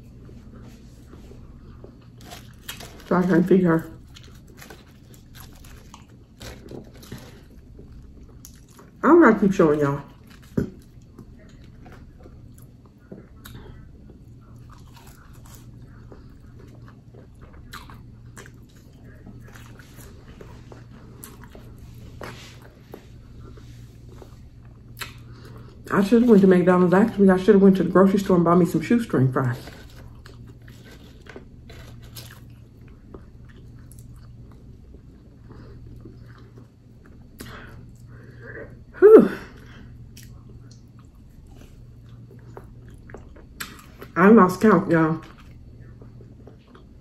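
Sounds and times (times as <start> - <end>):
chewing fries: 0.0 - 38.9, 39.5 - 47.0
low steady hum: 0.0 - 47.0.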